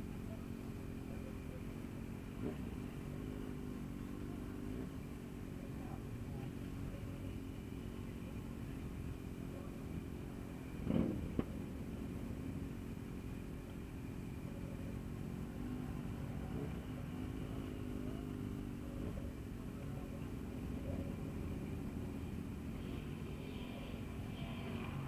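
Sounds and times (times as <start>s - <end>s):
motorcycle engine rumbling: 0.0s - 25.0s.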